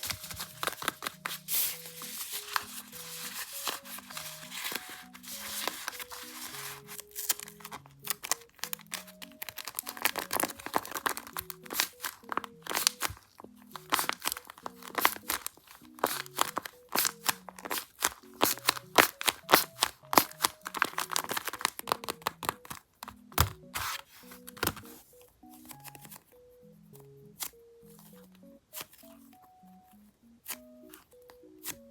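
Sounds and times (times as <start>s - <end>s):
paper crinkling and crunching: 0.0s - 31.9s
soft slow background melody: 0.0s - 31.9s.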